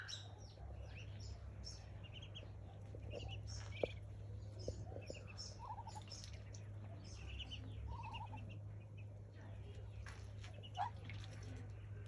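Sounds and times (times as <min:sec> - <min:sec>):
ducklings peeping: 0:00.0 - 0:12.0
steady low hum: 0:00.0 - 0:12.0.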